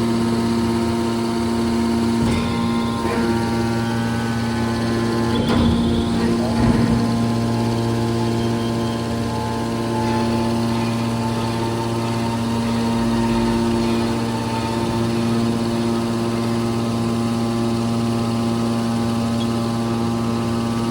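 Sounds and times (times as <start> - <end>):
baler mechanical hum: 0.0 - 20.9.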